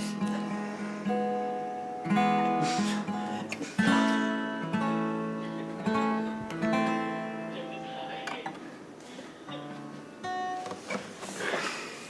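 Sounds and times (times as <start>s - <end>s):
acoustic guitar strumming chords: 0.0s - 11.5s.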